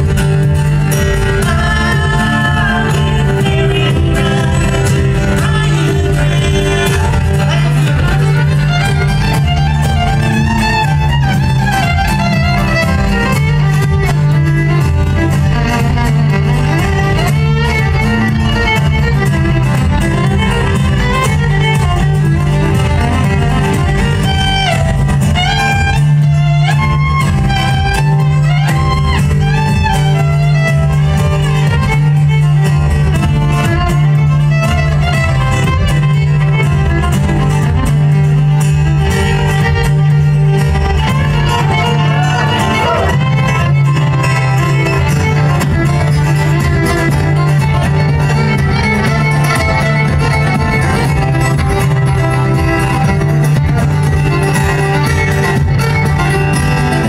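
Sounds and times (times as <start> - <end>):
fiddle melody: 0.0 - 57.0
strummed mandolin and guitar: 0.0 - 57.0.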